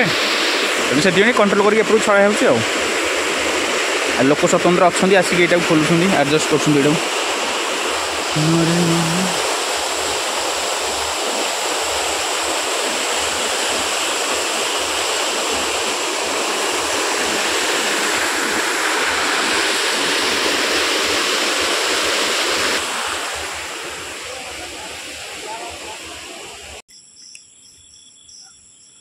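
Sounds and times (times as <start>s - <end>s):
floodwater roaring through sluice gate: 0.0s - 26.8s.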